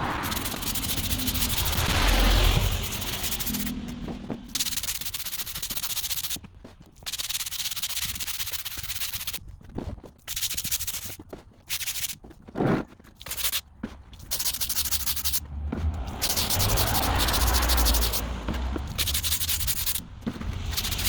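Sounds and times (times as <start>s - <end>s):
pressure washer jet hissing on paving: 0.0s - 6.4s, 7.1s - 9.4s, 10.3s - 12.2s, 13.2s - 13.6s, 14.2s - 15.4s, 16.2s - 21.0s.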